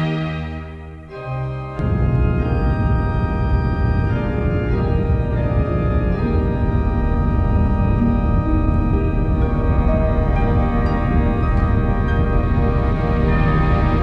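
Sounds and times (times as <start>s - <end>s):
sustained instrumental chords: 0.0s - 14.0s.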